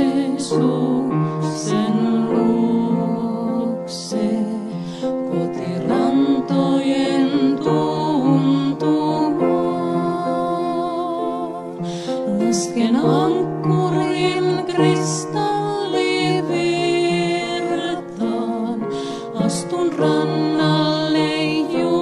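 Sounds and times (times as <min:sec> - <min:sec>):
grand piano accompaniment: 0:00.0 - 0:22.0
woman singing with vibrato: 0:00.0 - 0:22.0.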